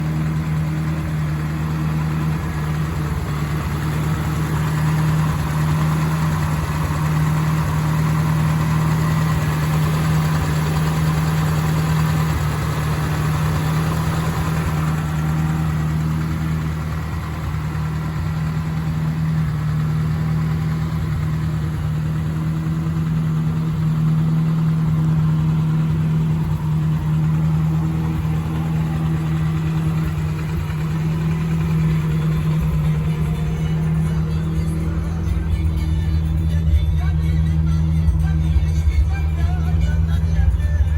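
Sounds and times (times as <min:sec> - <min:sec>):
pickup engine idling: 0:00.0 - 0:40.9.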